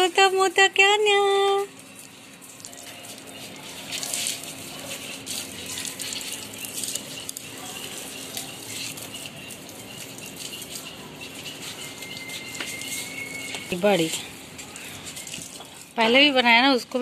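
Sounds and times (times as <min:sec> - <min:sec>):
water from hose splashing: 0:00.0 - 0:17.0.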